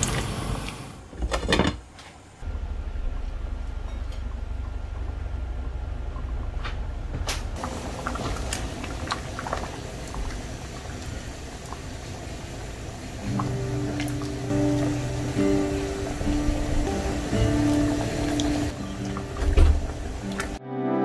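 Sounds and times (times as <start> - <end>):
low steady rumble: 2.4 - 20.4
soup bubbling: 3.5 - 20.6.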